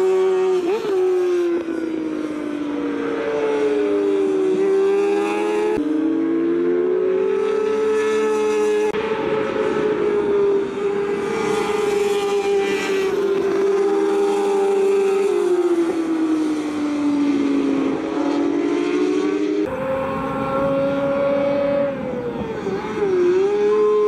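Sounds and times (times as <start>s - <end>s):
racing motorcycle engines: 0.0s - 24.0s.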